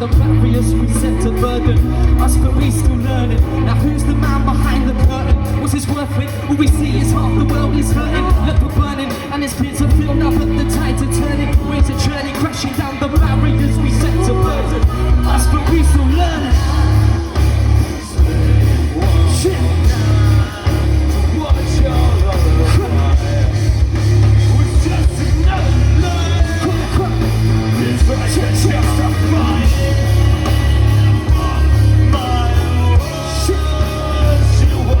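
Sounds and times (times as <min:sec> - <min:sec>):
live rock band playing: 0:00.0 - 0:35.0
vocals: 0:00.0 - 0:35.0.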